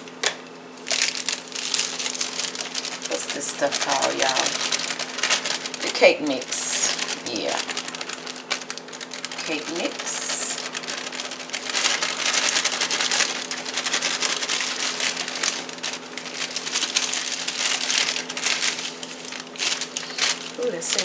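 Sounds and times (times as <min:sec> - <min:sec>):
dry mix pouring from bag: 0:00.8 - 0:21.0.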